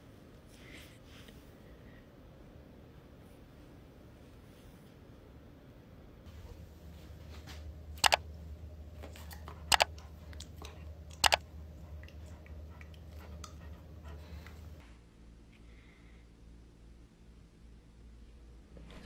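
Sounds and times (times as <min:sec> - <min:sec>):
steady low hum: 0:00.0 - 0:18.5.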